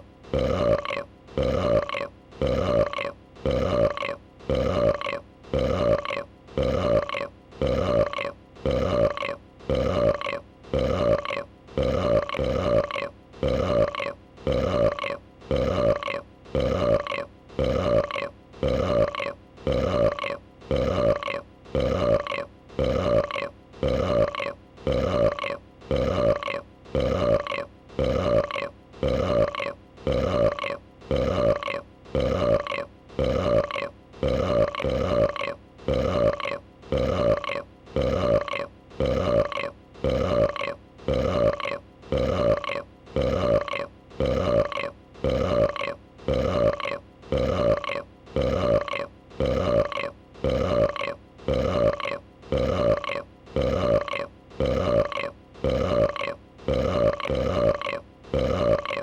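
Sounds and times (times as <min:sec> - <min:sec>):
dragon burp: 0:00.3 - 0:59.0.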